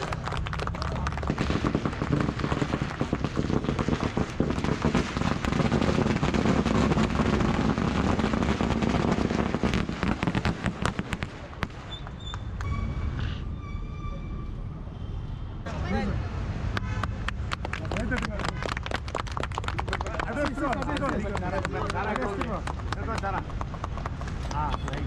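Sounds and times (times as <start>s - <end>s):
firecrackers crackling: 0.0s - 12.7s, 16.7s - 25.0s.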